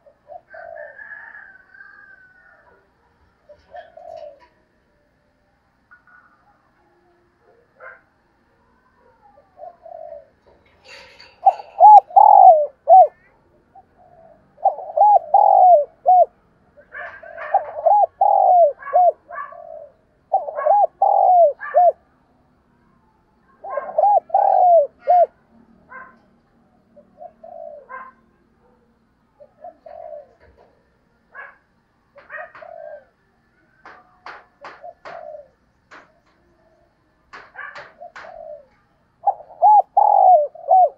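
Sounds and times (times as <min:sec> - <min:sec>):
dove cooing: 0:00.0 - 0:02.8, 0:03.4 - 0:04.8, 0:08.8 - 0:22.1, 0:23.5 - 0:40.9.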